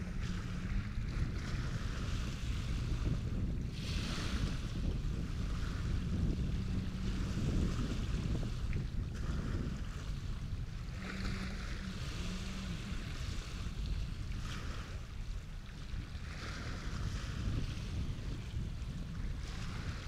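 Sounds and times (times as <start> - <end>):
water splashing in swells: 0.0 - 20.0
wind rumbling on microphone: 0.0 - 20.0.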